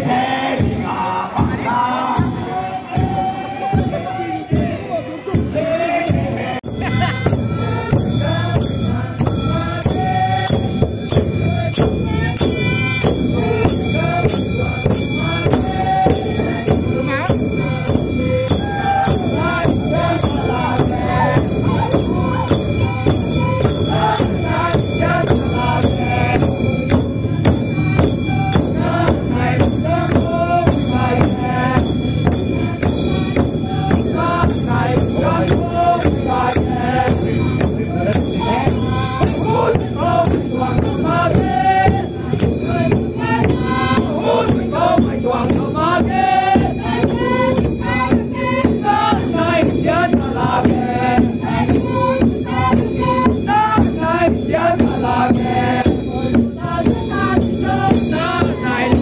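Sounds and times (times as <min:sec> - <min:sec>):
men singing in unison: 0:00.0 - 0:59.0
wooden drums beaten with sticks: 0:00.0 - 0:59.0.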